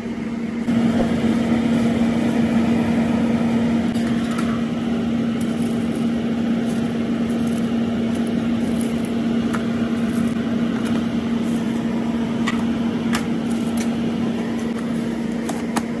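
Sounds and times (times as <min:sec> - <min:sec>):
oven fans humming: 0:00.0 - 0:16.0.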